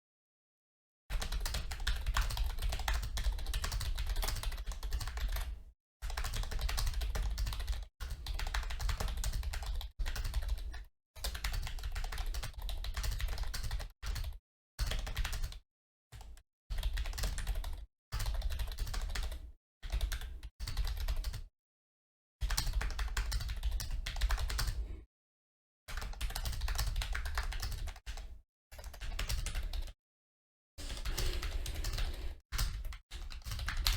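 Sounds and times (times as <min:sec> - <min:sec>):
fast keyboard typing: 0:01.1 - 0:15.6, 0:16.2 - 0:21.4, 0:22.4 - 0:24.8, 0:25.9 - 0:30.0, 0:30.8 - 0:33.9.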